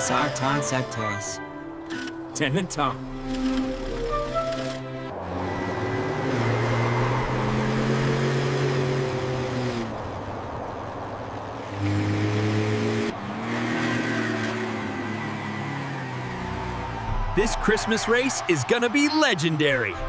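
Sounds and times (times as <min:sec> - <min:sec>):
cartoon car engines humming: 0:00.0 - 0:18.4.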